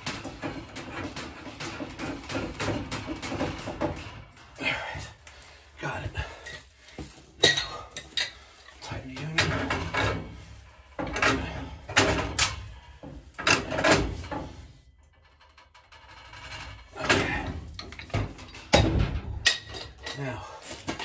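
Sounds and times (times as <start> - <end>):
pipe wrenches clanking on pipe: 0.0 - 21.0.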